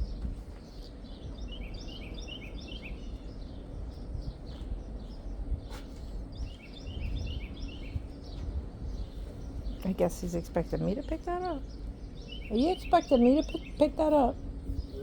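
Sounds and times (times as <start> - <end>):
low rumble of outdoor noise: 0.0 - 15.0
songbird chirping: 0.0 - 15.0.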